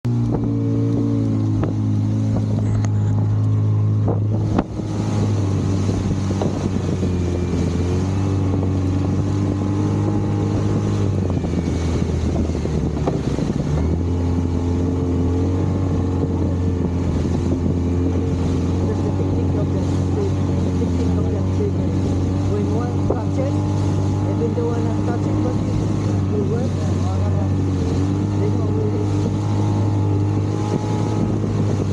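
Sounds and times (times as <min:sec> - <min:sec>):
outboard motor running: 0:00.0 - 0:31.9
wind on microphone: 0:00.1 - 0:31.9.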